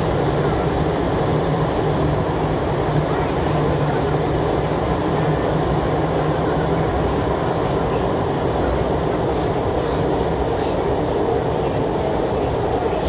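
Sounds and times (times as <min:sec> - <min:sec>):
wheels rushing on rail: 0:00.0 - 0:13.0.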